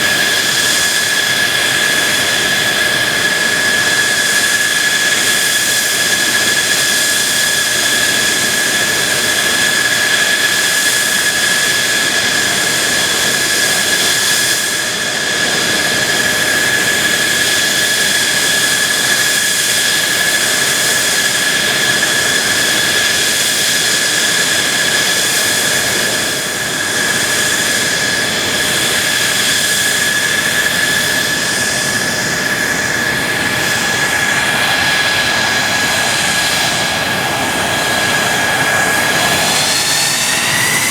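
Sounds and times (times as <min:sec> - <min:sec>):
jet engine running: 0:00.0 - 0:40.9.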